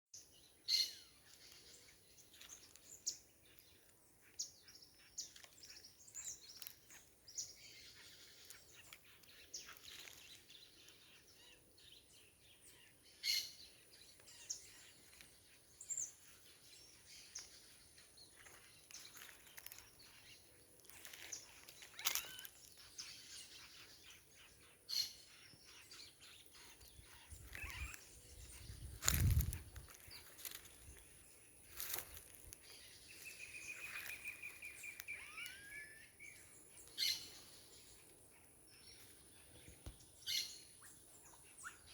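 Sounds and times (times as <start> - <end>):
birds chirping and calling: 0.2 - 41.9.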